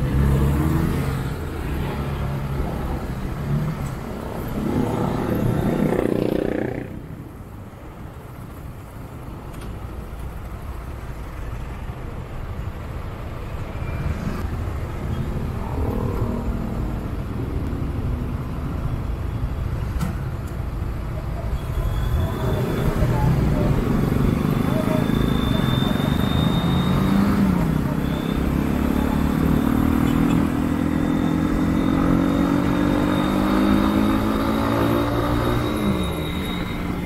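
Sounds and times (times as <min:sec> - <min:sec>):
low road rumble: 0:00.0 - 0:37.0
road traffic: 0:00.0 - 0:37.0.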